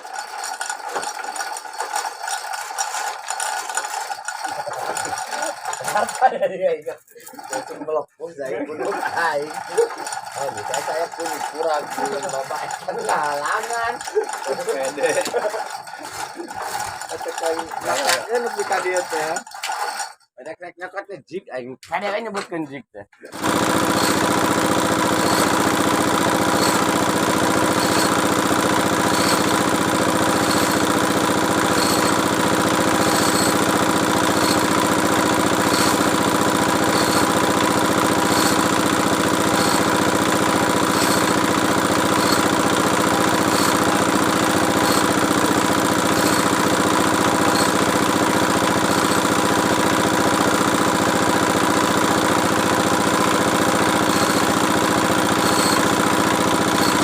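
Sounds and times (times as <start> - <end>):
drilling rig engine running: 0.0 - 6.4, 7.1 - 20.2, 23.3 - 57.0.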